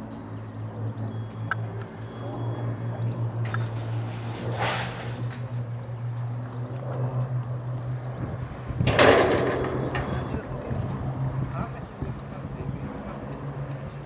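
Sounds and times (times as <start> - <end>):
small birds chirping: 0.0 - 4.3, 5.1 - 14.0
aircraft engines droning overhead: 0.0 - 14.0.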